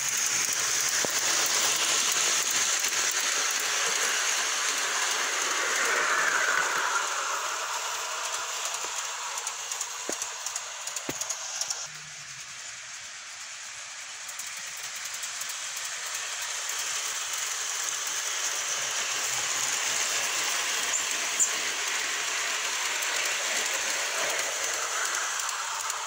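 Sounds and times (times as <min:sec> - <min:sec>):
model steam train hissing: 0:00.0 - 0:26.0.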